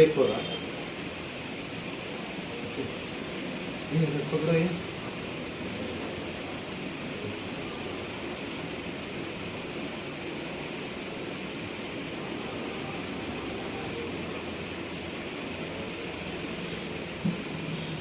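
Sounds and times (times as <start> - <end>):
constant hiss and rumble: 0.0 - 18.0.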